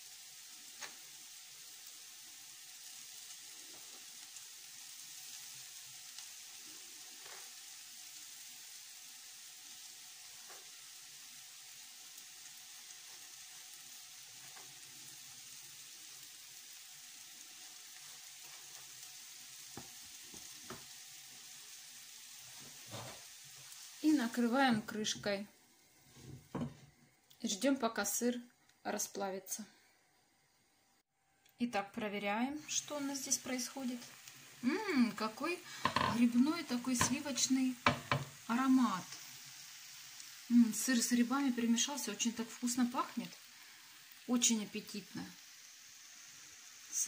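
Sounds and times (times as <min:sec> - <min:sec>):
mushrooms sizzling in a pan: 0:00.0 - 0:47.0.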